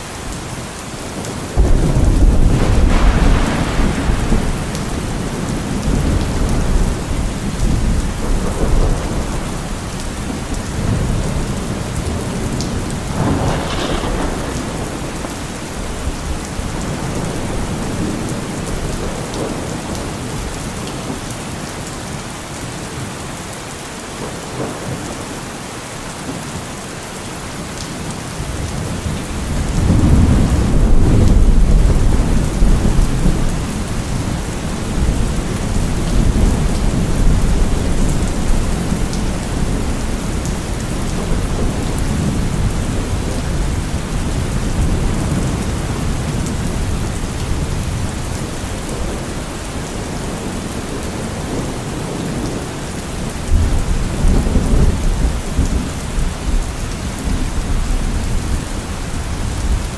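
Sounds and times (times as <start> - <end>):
steady rain: 0.0 - 59.9
thunder rumbling: 1.5 - 20.9, 28.4 - 59.9.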